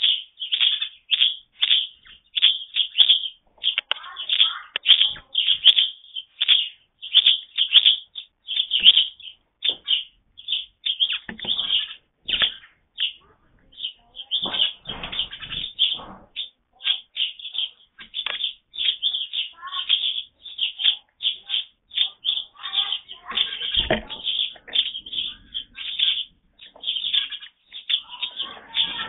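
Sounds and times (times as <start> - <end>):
birds chirping sharply: 0.0 - 29.0.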